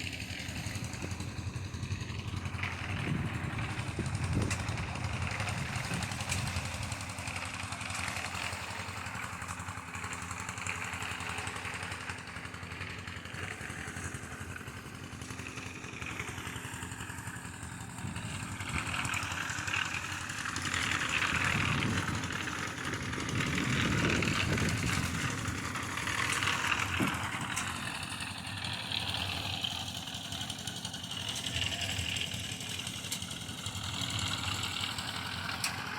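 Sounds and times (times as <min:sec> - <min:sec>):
engine running steadily: 0:00.0 - 0:35.9.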